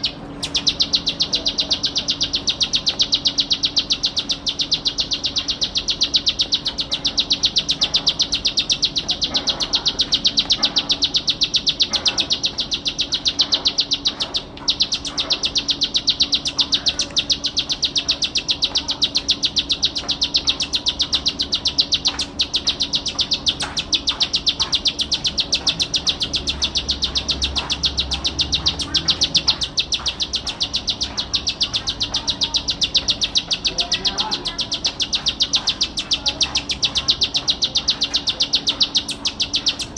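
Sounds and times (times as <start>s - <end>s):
small bird fast high chatter: 0.0s - 39.9s.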